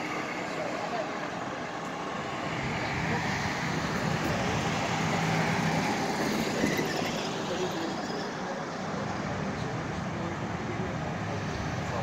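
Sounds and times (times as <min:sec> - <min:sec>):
street traffic: 0:00.0 - 0:12.0
vehicle engine humming nearby: 0:00.0 - 0:12.0.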